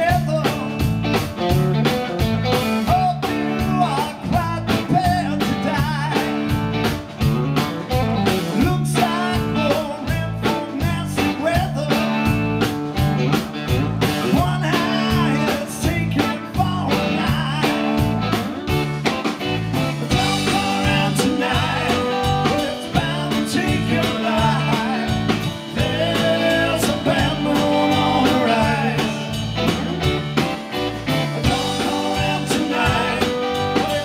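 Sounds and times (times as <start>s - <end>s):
bass guitar: 0.0s - 34.0s
drum kit: 0.0s - 34.0s
electric guitar: 0.0s - 34.0s.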